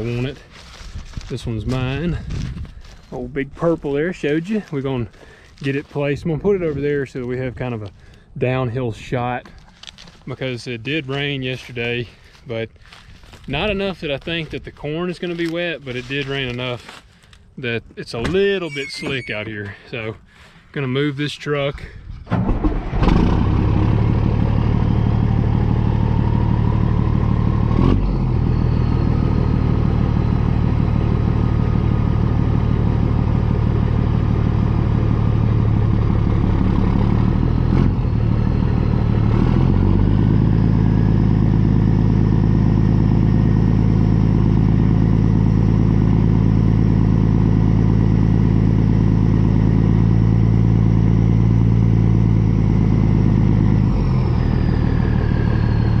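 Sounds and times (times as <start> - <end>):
diesel truck engine running: 0.0 - 56.0
engine whine: 0.0 - 56.0.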